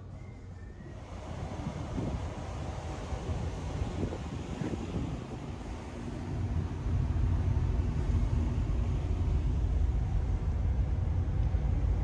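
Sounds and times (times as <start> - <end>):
faint ship hum: 0.0 - 12.0
wind buffeting microphone: 0.6 - 12.0.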